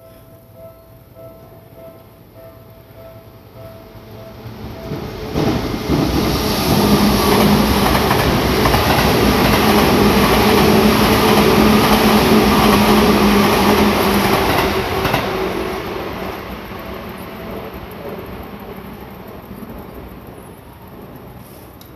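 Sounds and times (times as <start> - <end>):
electric train passing: 0.0 - 21.9.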